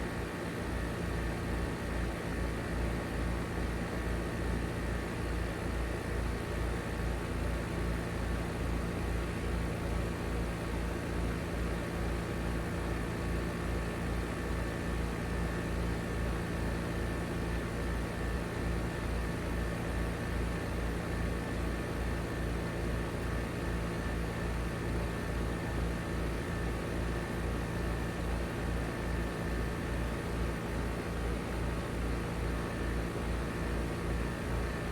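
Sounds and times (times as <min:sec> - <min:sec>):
heat pump humming and throbbing: 0:00.0 - 0:34.9.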